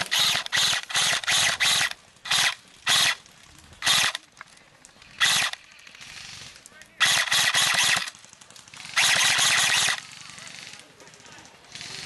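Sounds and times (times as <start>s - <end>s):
airsoft gun full-auto bursts: 0.0s - 3.2s, 3.8s - 4.2s, 5.1s - 12.0s.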